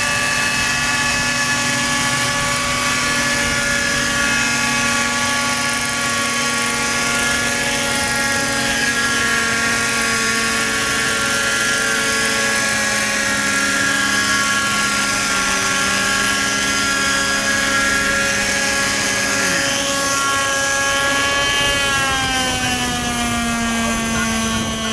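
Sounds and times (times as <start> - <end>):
model helicopter engines whining: 0.0 - 24.9.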